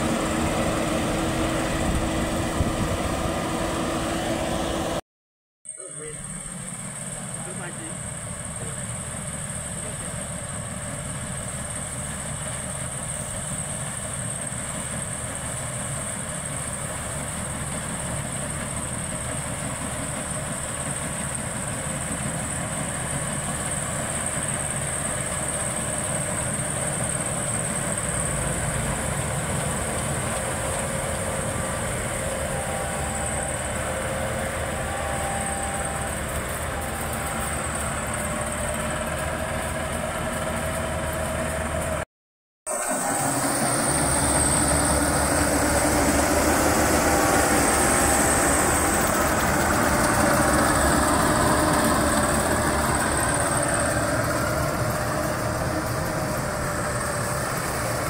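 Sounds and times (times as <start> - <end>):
combine harvester running: 0.0 - 5.0, 5.7 - 42.0, 42.7 - 58.0
high-pitched machine whine: 5.7 - 42.0, 42.7 - 58.0.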